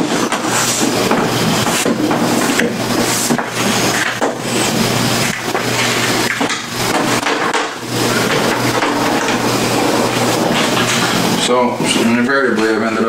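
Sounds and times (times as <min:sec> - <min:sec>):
low hum: 0:00.8 - 0:12.0.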